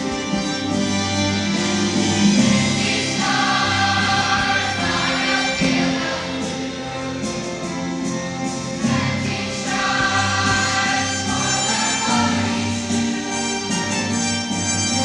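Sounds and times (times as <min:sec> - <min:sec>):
chorus singing: 0:00.0 - 0:15.0
instrumental accompaniment: 0:00.0 - 0:15.0.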